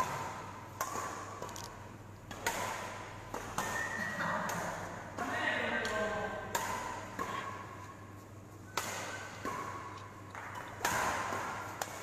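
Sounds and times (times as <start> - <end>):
low hum in large hall: 0.0 - 12.0
racket hitting shuttlecock: 0.0 - 12.0.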